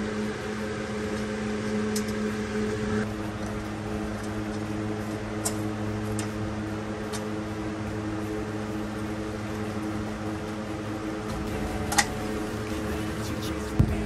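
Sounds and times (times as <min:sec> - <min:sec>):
machine hum: 0:00.0 - 0:14.0
low tones: 0:02.7 - 0:14.0.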